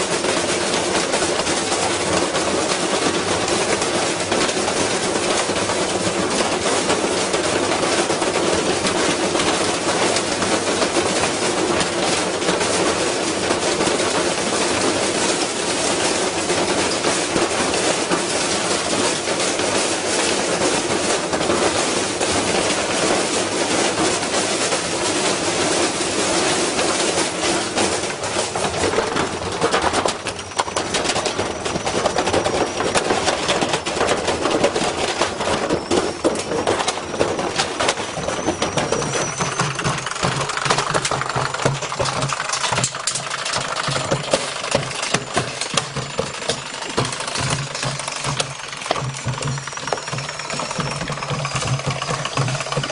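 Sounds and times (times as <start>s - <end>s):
washing machine banging and rattling: 0.0s - 52.9s.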